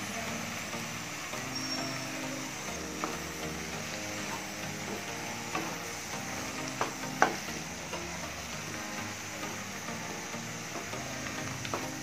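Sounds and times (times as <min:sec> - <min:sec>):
okra sizzling in a pan: 0:00.0 - 0:12.0
wooden spatula stirring: 0:01.3 - 0:12.0.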